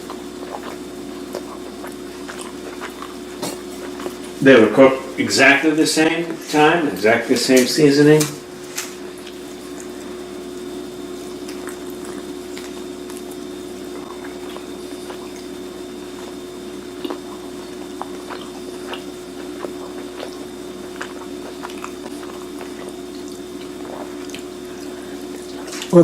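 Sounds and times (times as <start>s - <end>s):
chewing and moist squishing: 0.0s - 4.4s, 8.6s - 26.0s
steady low hum: 0.0s - 26.0s.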